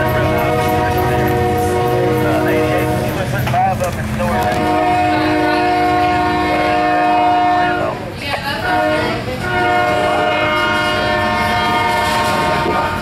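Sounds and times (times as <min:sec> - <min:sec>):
locomotive air horn: 0:00.0 - 0:03.2, 0:04.2 - 0:08.0, 0:08.6 - 0:13.0
passing train rumble: 0:00.0 - 0:13.0.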